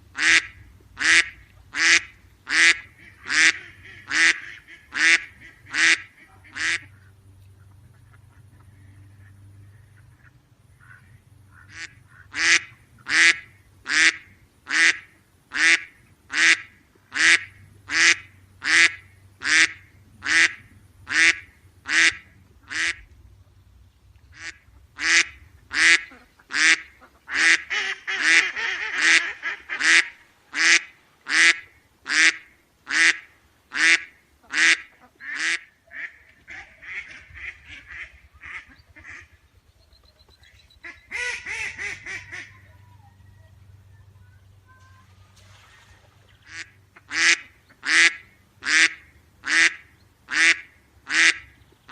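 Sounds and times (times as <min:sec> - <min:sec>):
duck quacking: 0:00.1 - 0:23.1, 0:24.3 - 0:39.4, 0:40.8 - 0:43.2, 0:46.4 - 0:51.9.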